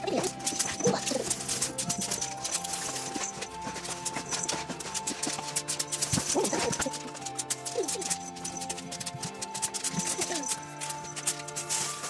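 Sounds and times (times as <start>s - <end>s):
clopping percussion beat: 0.0s - 12.0s
music with held notes: 0.0s - 12.0s.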